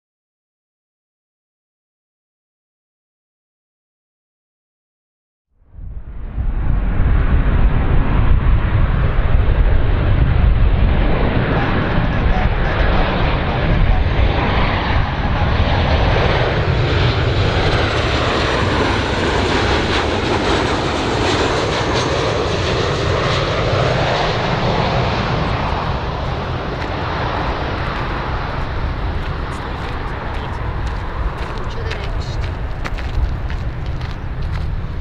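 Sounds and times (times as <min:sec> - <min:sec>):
jet airliner engine roar: 0:05.6 - 0:35.0.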